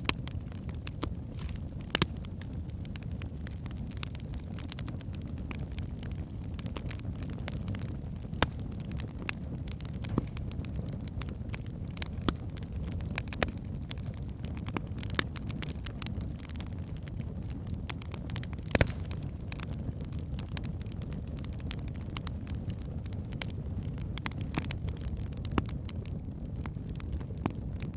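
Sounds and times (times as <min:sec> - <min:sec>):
logs crackling and popping: 0:00.0 - 0:27.9
low rumble of flames: 0:00.0 - 0:27.9.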